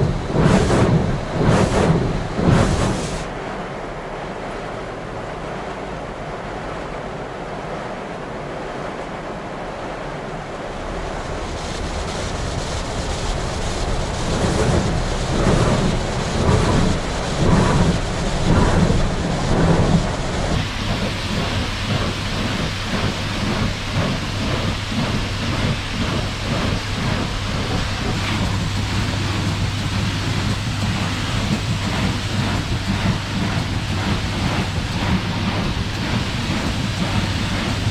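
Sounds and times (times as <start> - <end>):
truck wash spraying water: 0.0 - 4.6, 10.6 - 37.9.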